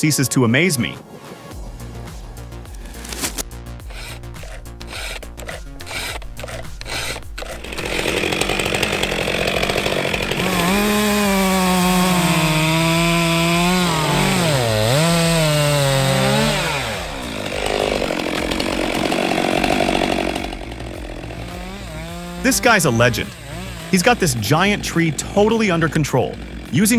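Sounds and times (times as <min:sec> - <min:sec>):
rough cutting noise: 0:00.8 - 0:26.9
chainsaw engine revving: 0:02.9 - 0:26.9.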